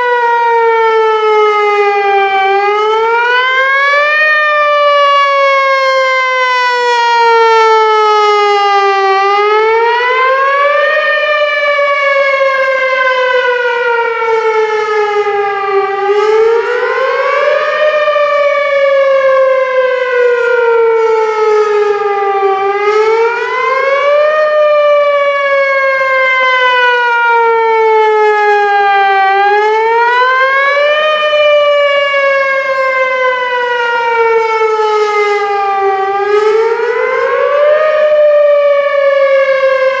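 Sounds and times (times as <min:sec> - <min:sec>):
tornado siren wailing: 0:00.0 - 0:40.0.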